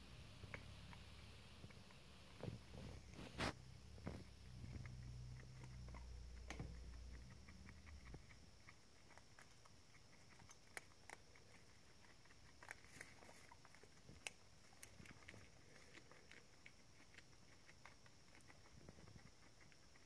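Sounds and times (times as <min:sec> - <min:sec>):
guinea pigs chewing pellets: 0:00.0 - 0:20.0.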